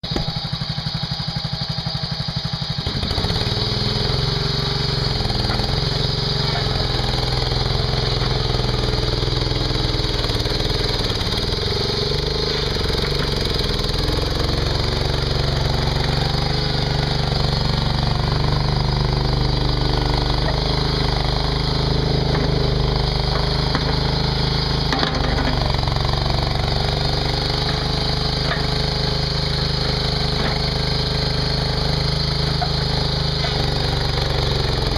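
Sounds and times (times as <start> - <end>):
skid steer engine: 0.0 - 34.9.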